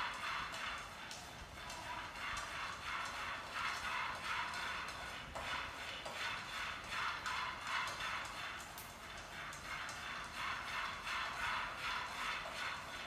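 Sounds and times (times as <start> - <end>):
spatula scraping food in pan: 1.8 - 8.7, 9.3 - 13.0.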